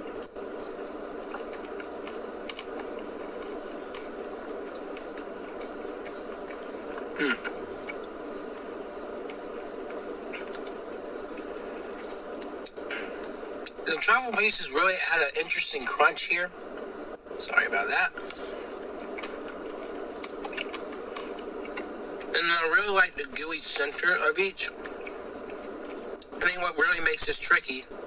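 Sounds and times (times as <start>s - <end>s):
steady buzzing hiss: 0.0s - 28.0s.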